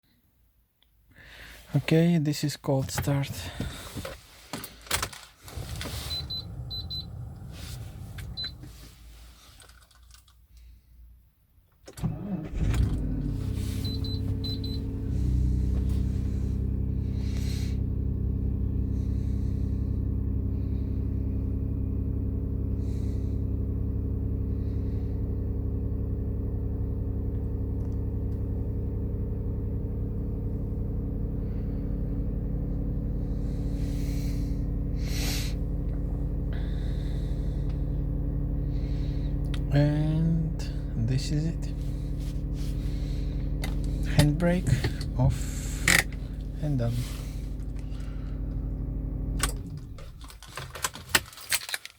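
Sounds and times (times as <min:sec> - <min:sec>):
car engine cranking and idling: 0:01.6 - 0:10.8, 0:11.6 - 0:51.9.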